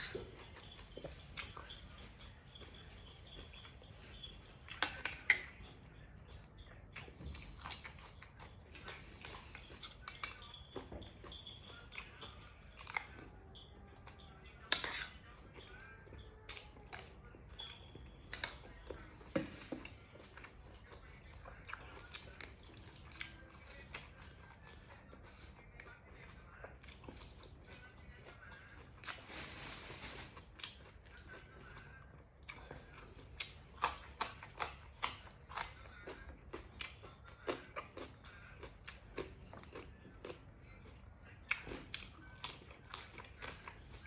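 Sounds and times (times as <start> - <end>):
person chewing and crunching food: 0.0 - 44.0.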